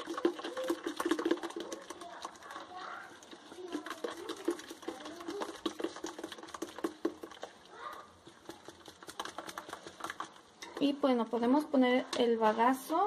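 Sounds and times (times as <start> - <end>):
plastic sieve scraping metal pot: 0.0 - 11.0.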